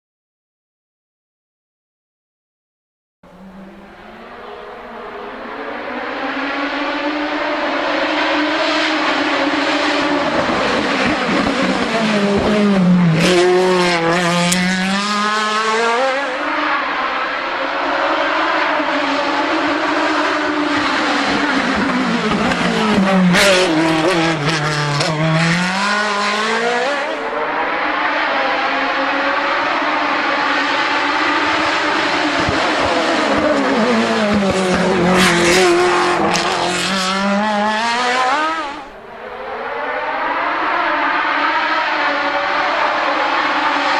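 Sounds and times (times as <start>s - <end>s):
racing car engines at high revs: 3.3s - 43.9s.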